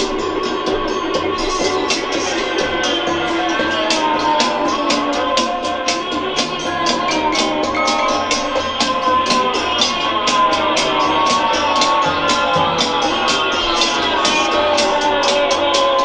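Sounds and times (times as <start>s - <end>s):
instrumental rock music: 0.0s - 16.0s
sharp high percussion strokes: 0.0s - 16.0s.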